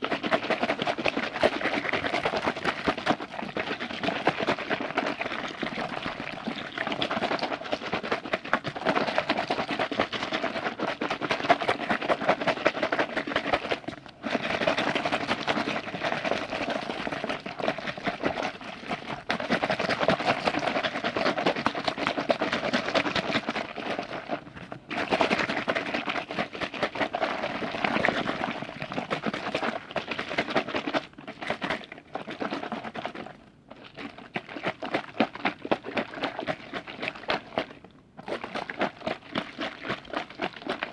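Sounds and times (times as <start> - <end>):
liquid sloshing by hand: 0.0 - 40.9.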